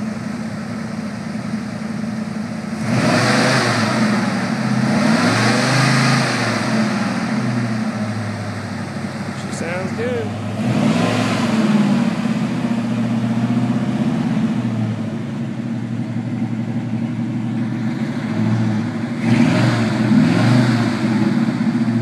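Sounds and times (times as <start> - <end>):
pickup engine idling: 0.0 - 5.1, 5.7 - 22.0.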